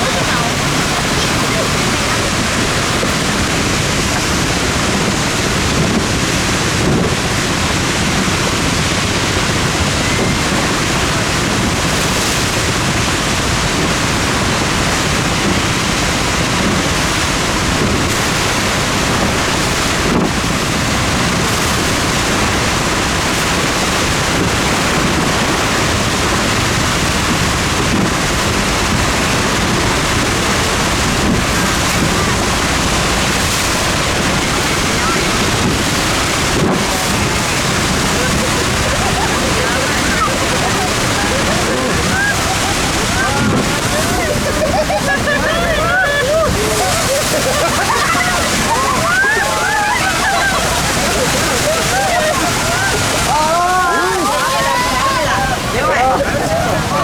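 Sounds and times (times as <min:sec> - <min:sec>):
waterfall rushing: 0:00.0 - 0:57.0
wind buffeting microphone: 0:00.0 - 0:57.0.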